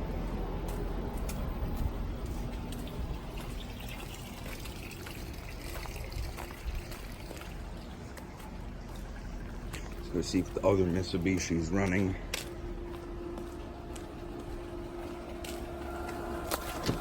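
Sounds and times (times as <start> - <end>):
air conditioner hum and fan: 0.0 - 17.0.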